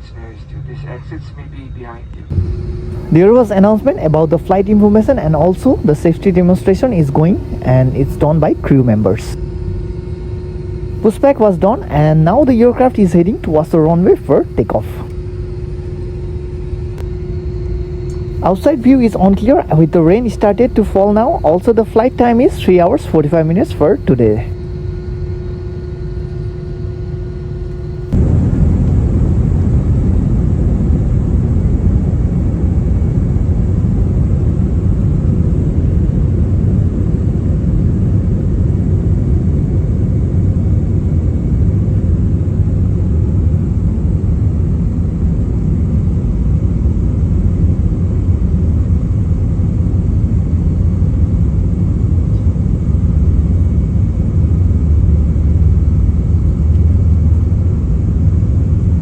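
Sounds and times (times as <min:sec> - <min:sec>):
airplane cabin hum: 0:00.0 - 0:59.0
rumble of engines and airflow: 0:00.0 - 0:59.0.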